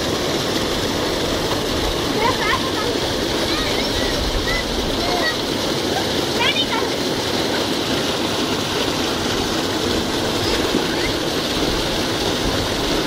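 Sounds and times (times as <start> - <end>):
water gushing into basin: 0.0 - 13.0
water splashing: 0.0 - 13.0.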